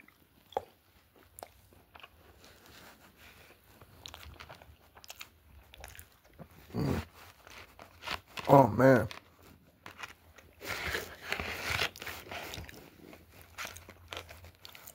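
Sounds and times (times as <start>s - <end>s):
person chewing food: 0.0s - 14.9s.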